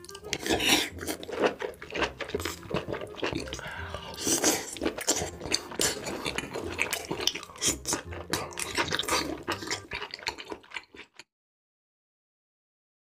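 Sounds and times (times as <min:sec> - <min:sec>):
wet chewing: 0:00.0 - 0:11.3.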